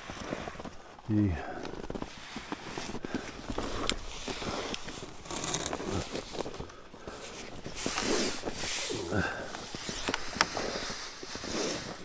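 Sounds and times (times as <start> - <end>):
snowshoe steps crunching in snow: 0.0 - 12.0.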